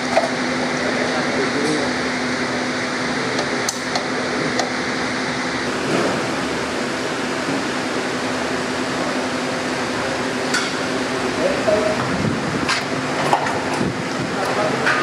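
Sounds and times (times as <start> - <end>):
pedestal fan whirring: 0.0 - 15.0.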